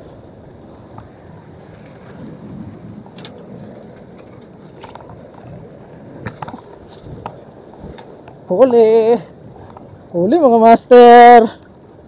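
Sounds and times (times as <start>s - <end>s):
wind on microphone: 0.0s - 10.2s.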